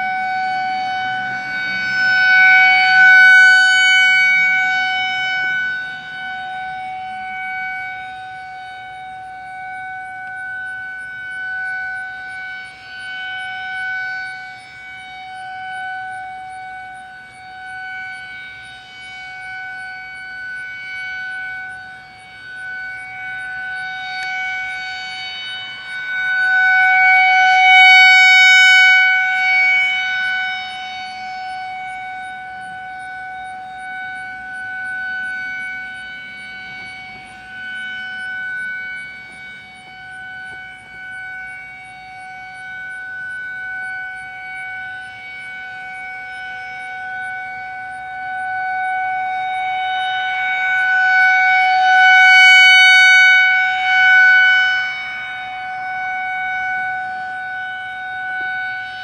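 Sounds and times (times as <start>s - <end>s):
high-pitched warning siren: 0.0s - 59.0s.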